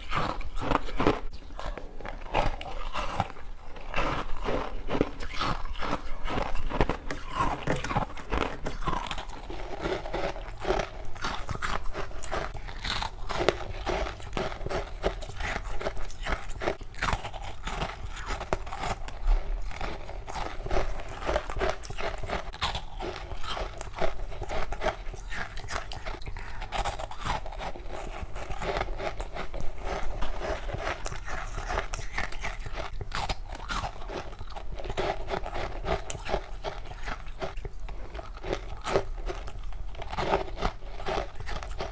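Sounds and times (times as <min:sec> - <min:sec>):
frozen fruit being crunched: 0:00.1 - 0:41.9.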